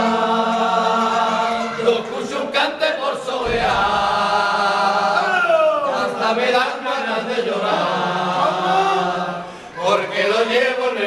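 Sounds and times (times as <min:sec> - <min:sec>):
men singing unaccompanied: 0:00.0 - 0:11.0.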